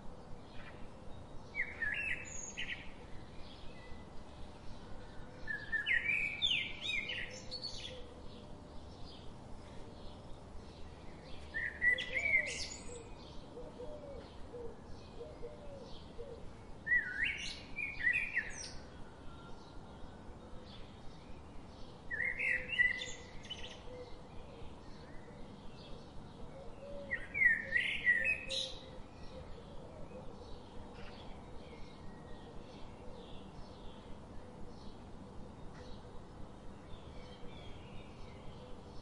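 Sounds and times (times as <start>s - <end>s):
songbird singing: 0.0s - 39.0s.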